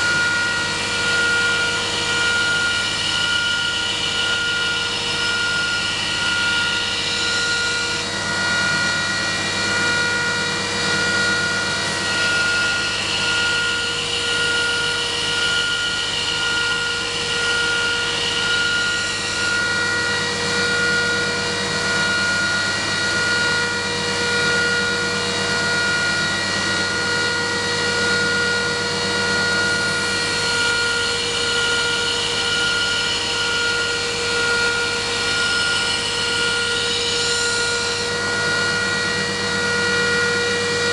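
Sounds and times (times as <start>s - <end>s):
belt grinder motor whine: 0.0s - 40.9s.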